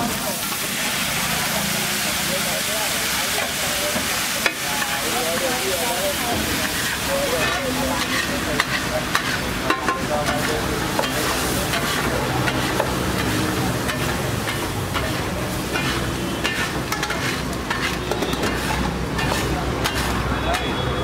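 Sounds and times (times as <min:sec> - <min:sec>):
egg sizzling on a griddle: 0:00.0 - 0:21.0
spatula scraping a griddle: 0:03.4 - 0:21.0.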